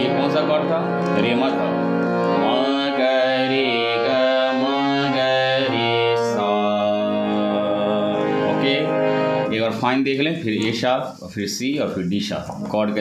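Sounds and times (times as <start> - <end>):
harmonium playing chords: 0.0 - 11.2.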